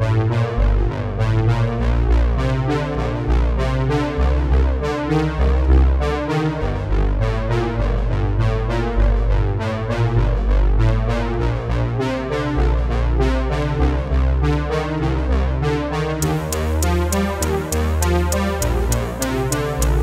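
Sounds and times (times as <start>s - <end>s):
synthesizer and electric piano music: 0.0s - 20.0s.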